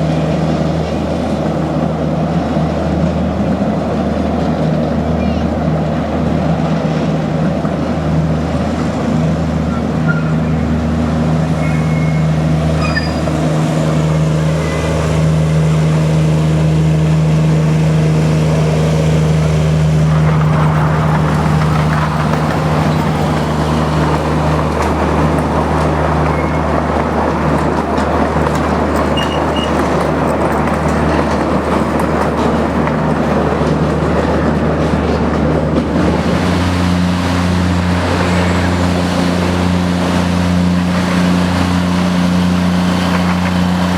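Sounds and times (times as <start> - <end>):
miniature locomotive engine drone: 0.0 - 43.9
rushing noise of moving train: 0.0 - 43.9.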